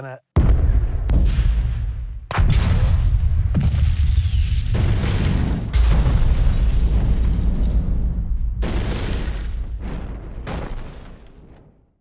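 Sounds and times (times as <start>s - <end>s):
explosion boom and rumble: 0.4s - 12.0s.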